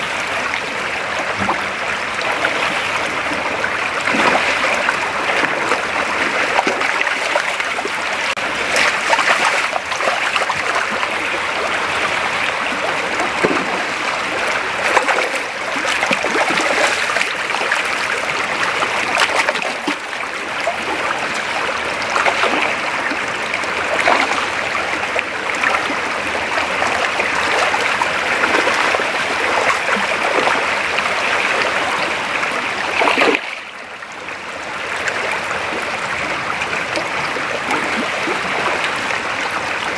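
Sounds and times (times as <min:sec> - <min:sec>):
creek water running: 0:00.0 - 0:39.9
water splashes: 0:00.0 - 0:39.9.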